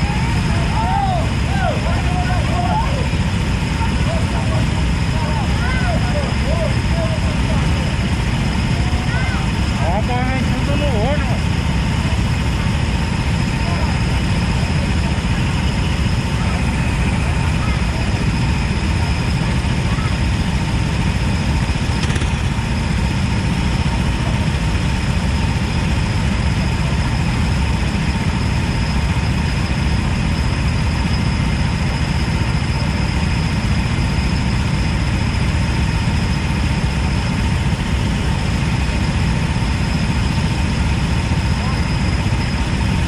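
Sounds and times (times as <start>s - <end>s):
go-kart engine idling: 0.0s - 43.0s.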